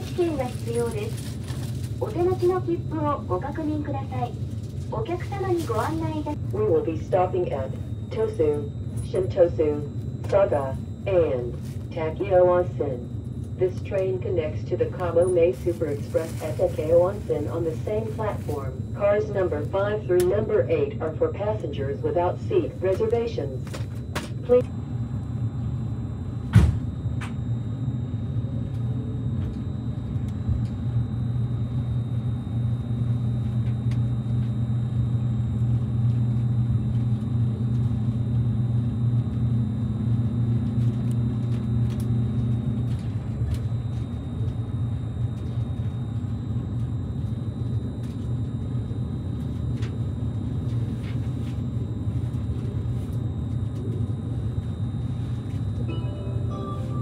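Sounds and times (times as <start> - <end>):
train interior hum and rumble: 0.0 - 57.0.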